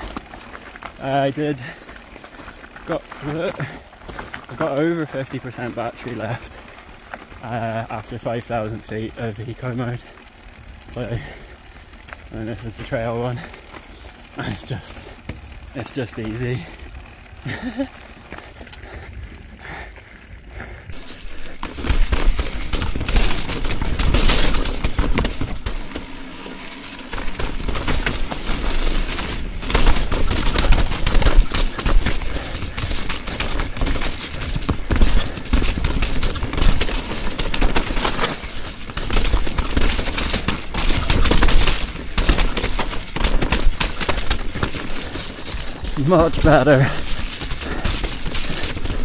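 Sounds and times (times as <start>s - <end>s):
bike frame rattling: 0.0s - 49.0s
tyre roar on dirt: 0.0s - 49.0s.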